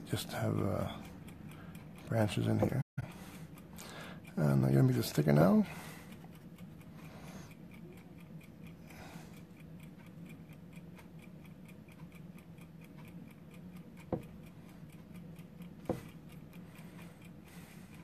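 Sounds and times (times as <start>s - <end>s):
low steady hum: 0.0s - 18.0s
mechanical timer ticking: 0.0s - 18.0s.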